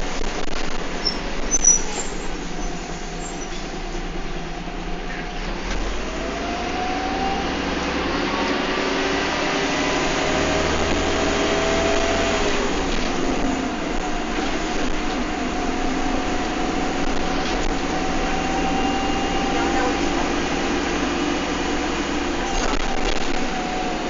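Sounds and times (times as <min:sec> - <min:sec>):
road and drivetrain rumble: 0:00.0 - 0:24.0
bus whine rising in pitch: 0:01.0 - 0:24.0.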